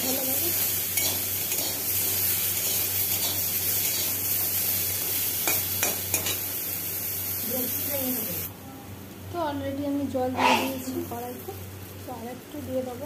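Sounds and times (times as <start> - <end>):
vegetables sizzling in hot oil: 0.0 - 8.5, 10.4 - 13.0.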